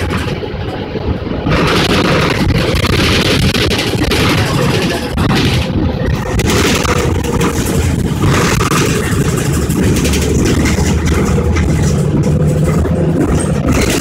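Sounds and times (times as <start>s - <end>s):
bus engine drone: 0.0s - 14.0s
road noise: 0.0s - 14.0s.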